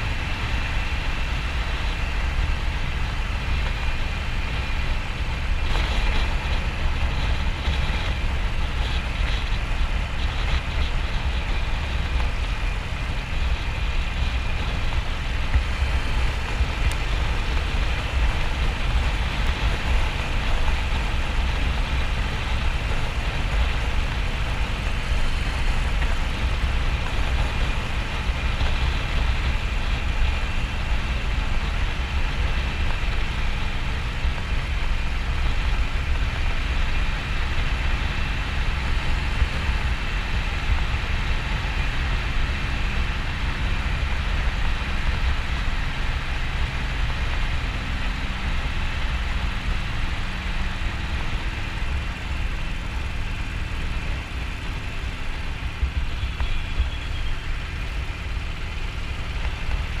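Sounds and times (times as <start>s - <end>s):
motorcycle engine running: 0.0s - 60.0s
wind and road noise: 0.0s - 60.0s.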